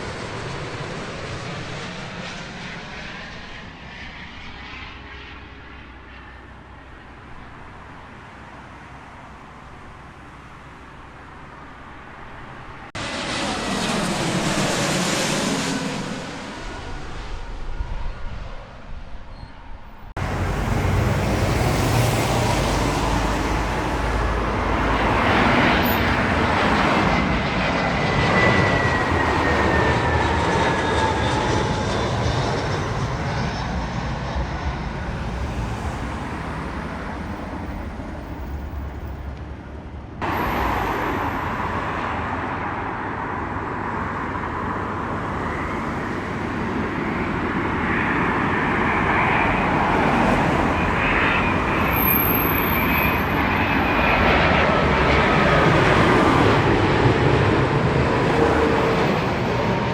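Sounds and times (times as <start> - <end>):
jet airliner engines passing: 0.0 - 59.9.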